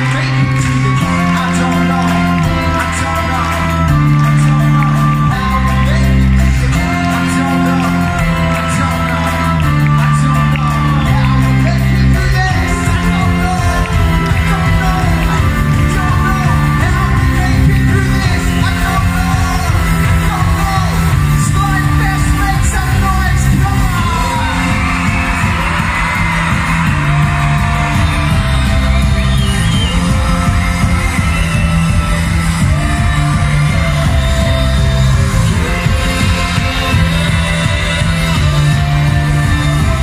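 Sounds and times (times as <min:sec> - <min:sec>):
crowd yelling and screaming: 0:00.0 - 0:40.0
live pop-rock band playing: 0:00.0 - 0:40.0
person singing lead vocals: 0:00.0 - 0:40.0.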